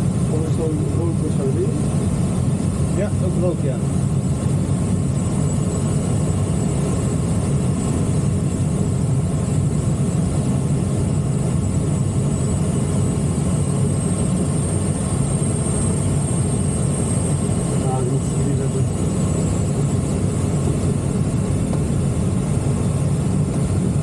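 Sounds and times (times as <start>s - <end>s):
airflow rushing around cockpit: 0.0s - 24.0s.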